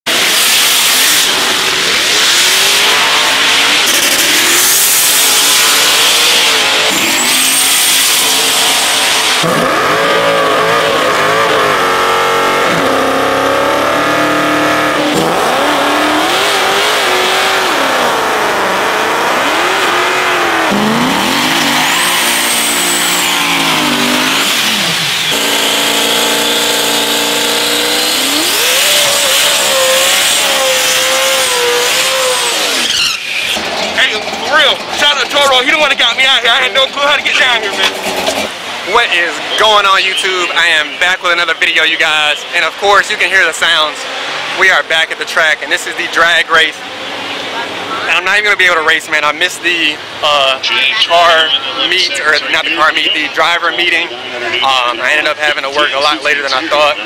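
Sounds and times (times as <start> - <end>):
drag car engines revving: 0.0 - 57.0.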